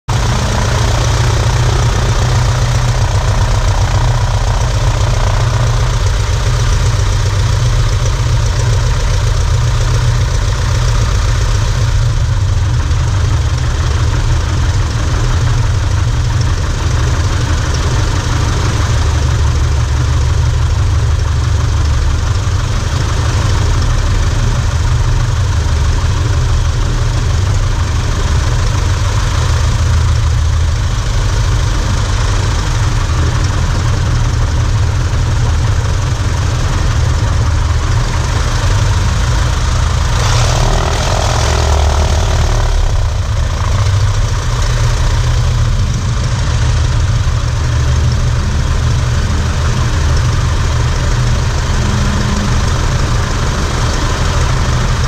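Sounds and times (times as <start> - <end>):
propeller engine running: 0.0 - 55.0.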